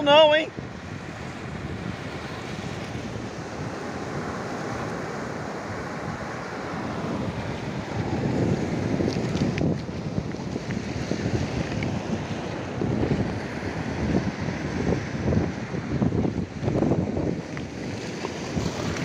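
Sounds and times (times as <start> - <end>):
surf washing over rocks: 0.0 - 19.0
wind noise on microphone: 0.0 - 19.0.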